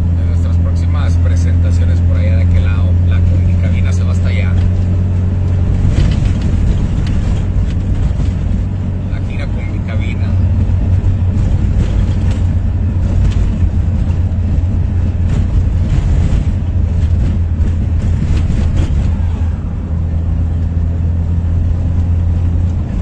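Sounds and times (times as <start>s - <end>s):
road and wind noise: 0.0s - 23.0s
vehicle engine drone: 0.0s - 23.0s.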